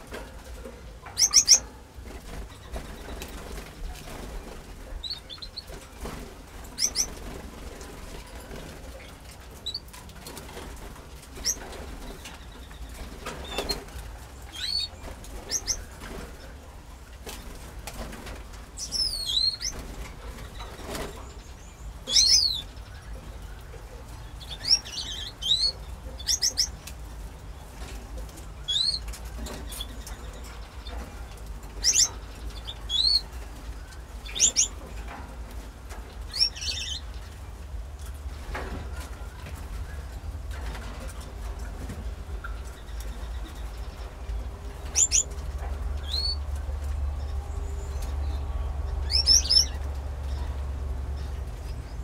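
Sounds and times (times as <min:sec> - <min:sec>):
canaries chirping: 0:00.0 - 0:52.0
steady low hum: 0:00.0 - 0:52.0.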